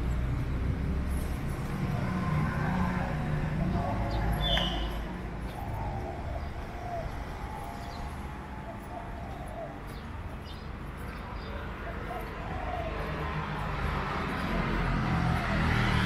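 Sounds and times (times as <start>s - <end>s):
distant traffic rumble: 0.0s - 16.0s
dove cooing: 1.9s - 10.6s, 11.3s - 16.0s.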